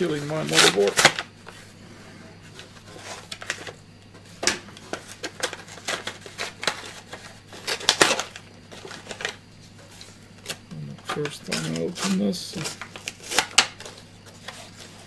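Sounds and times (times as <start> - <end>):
packaging crinkling: 0.0 - 1.4, 2.5 - 3.8, 4.4 - 15.0.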